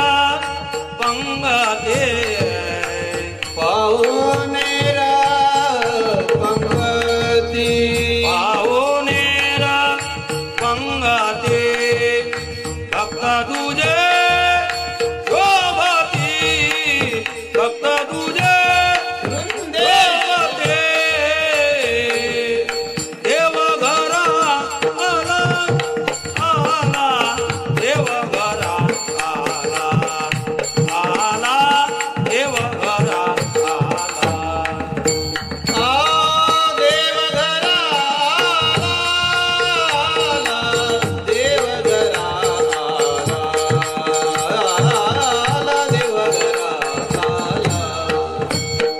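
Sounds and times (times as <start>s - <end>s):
hand percussion: 0.0s - 48.9s.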